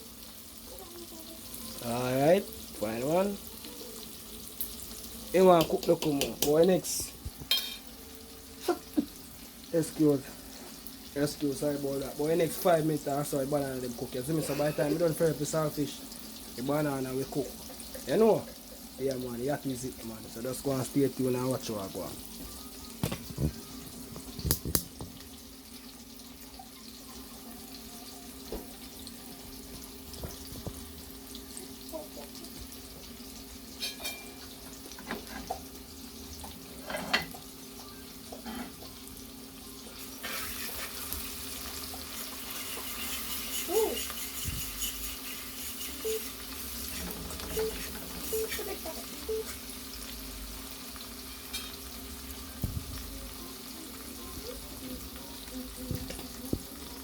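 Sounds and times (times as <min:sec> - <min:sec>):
food frying in hot oil: 0:00.0 - 0:57.0.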